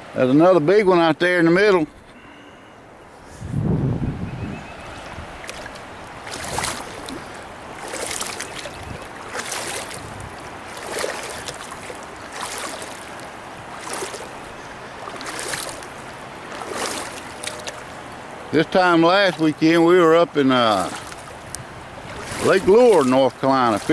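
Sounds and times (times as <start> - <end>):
paddle strokes swishing water: 0.0 - 23.9
rushing water: 0.0 - 23.9
wind: 0.0 - 23.9.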